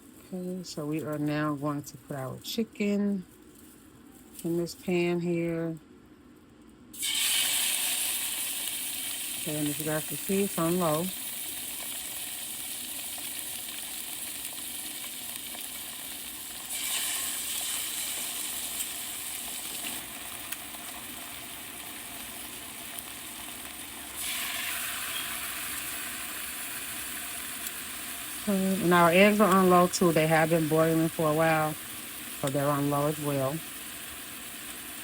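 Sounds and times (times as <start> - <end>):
chicken sizzling in a frying pan: 7.0 - 35.0.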